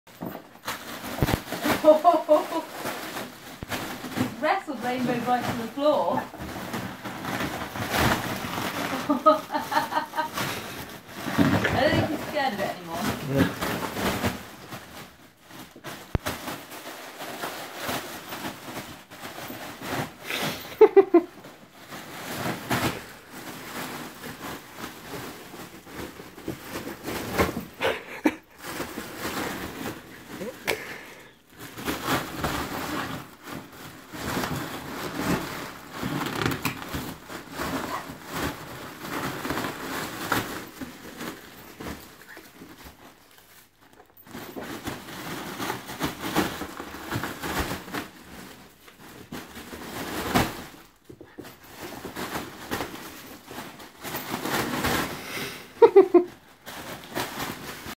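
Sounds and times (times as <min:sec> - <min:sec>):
foil balloon crinkling: 0:00.1 - 0:57.9.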